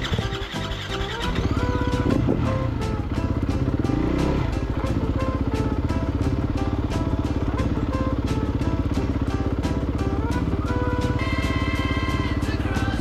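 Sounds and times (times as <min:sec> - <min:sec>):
background music with beat: 0:00.0 - 0:13.0
dirt bike engine running: 0:00.0 - 0:13.0.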